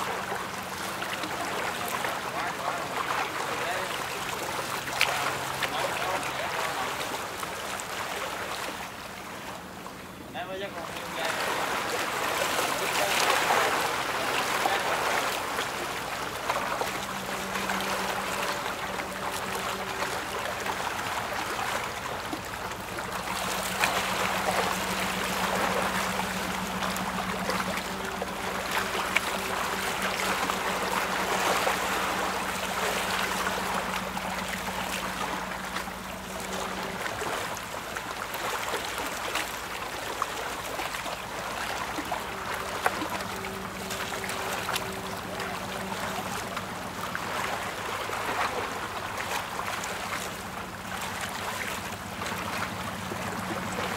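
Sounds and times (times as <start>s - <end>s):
low engine hum: 0.0s - 53.9s
river water splashing: 0.0s - 53.9s.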